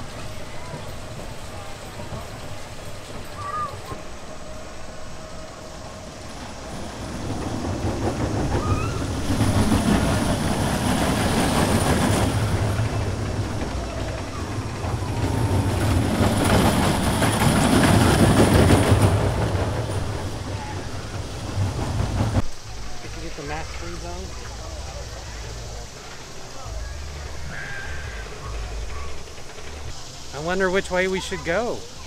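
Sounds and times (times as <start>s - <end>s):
train cars rumbling on rails: 0.0s - 32.0s.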